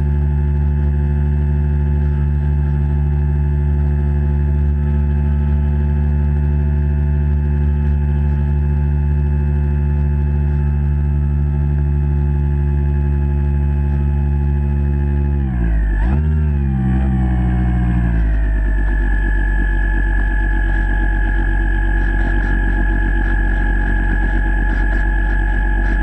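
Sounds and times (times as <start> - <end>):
electric motor drone underwater: 0.0 - 26.0.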